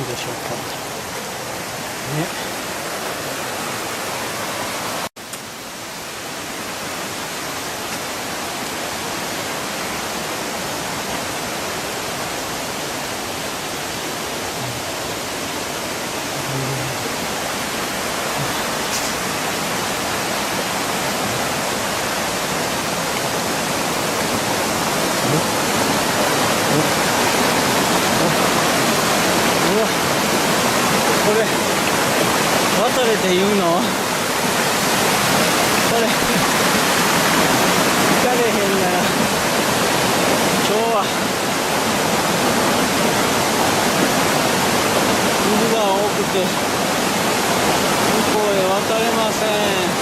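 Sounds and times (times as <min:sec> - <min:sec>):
stream and waterfall rushing: 0:00.0 - 0:50.0.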